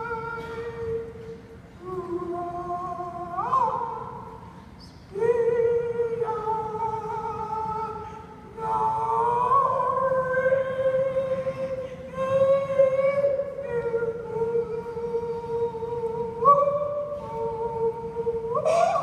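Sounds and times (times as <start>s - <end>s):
woman singing into microphone: 0.0s - 4.5s, 5.1s - 19.0s.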